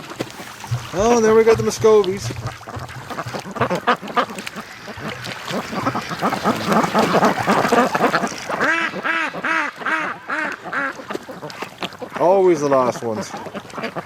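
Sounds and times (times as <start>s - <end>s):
flock of ducks quacking: 0.7s - 14.0s.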